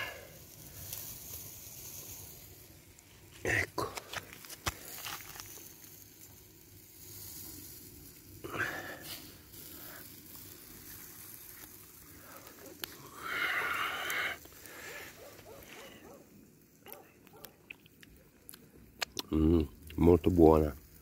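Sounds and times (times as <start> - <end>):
steak sizzling on grill: 0.0 - 21.0.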